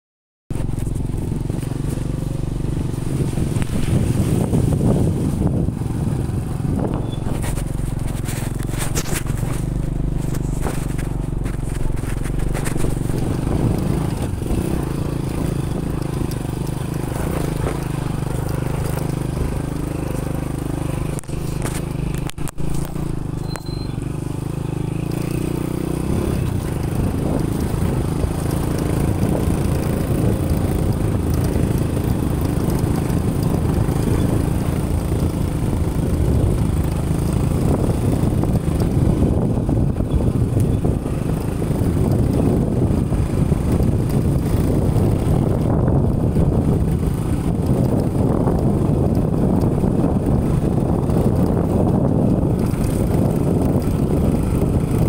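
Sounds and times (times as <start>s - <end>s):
motorcycle engine running: 0.5s - 55.0s.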